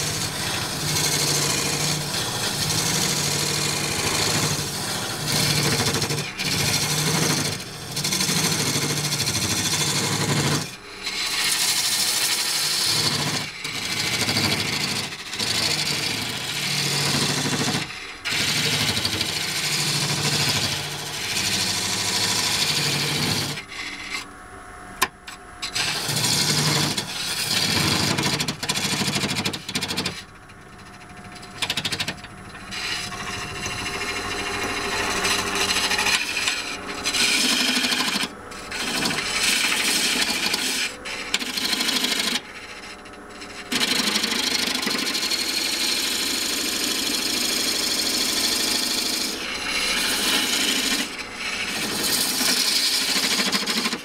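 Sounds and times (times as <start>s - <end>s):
lathe tool scraping wood: 0.0s - 24.3s, 25.6s - 54.0s.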